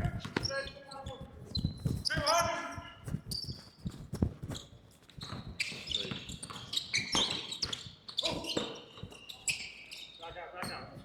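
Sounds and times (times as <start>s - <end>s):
sneaker squeaks: 0.1s - 2.5s, 3.2s - 11.0s.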